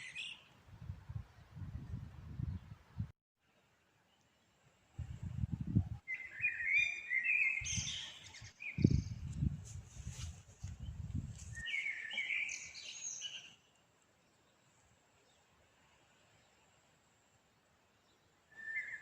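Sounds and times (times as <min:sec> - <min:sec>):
songbirds chirping: 0:00.0 - 0:00.7, 0:02.4 - 0:19.0.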